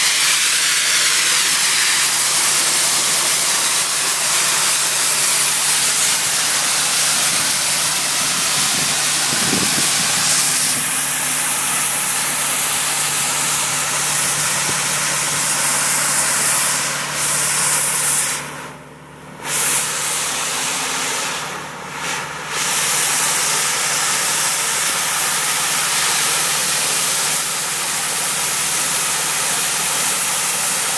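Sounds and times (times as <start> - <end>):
dry ice blasting hiss: 0.0 - 18.5, 19.4 - 30.9.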